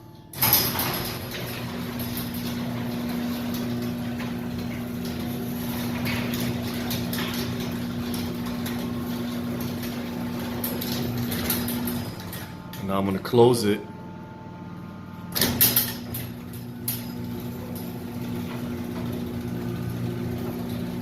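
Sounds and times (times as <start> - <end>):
garage door clattering on tracks: 0.0 - 13.0, 15.2 - 21.0
garage door opener motor hum: 0.0 - 21.0.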